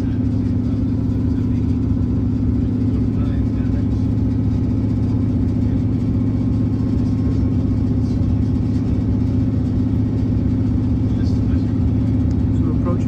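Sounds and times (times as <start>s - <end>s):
diesel train engine drone: 0.0s - 13.0s
wheels rumbling on track: 0.0s - 13.0s.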